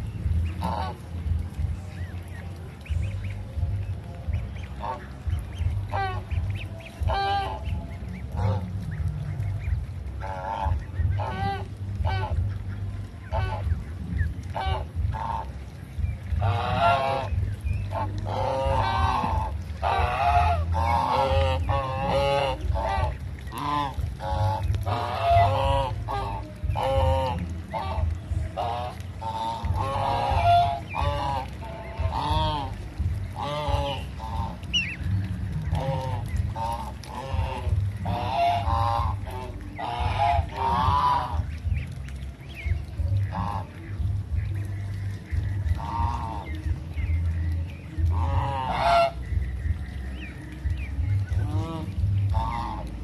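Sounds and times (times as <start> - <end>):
geese honking: 0.0 - 53.0
steady low rumble: 0.0 - 53.0.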